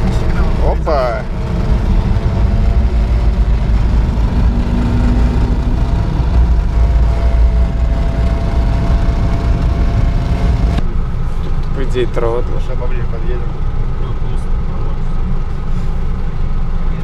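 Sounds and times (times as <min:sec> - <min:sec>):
vehicle engine rumble from inside cab: 0:00.0 - 0:17.0.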